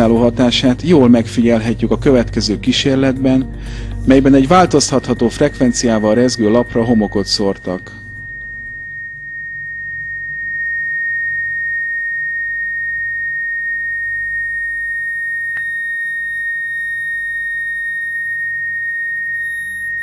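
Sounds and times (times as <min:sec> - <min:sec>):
steady high-pitched tone: 0:00.0 - 0:20.0.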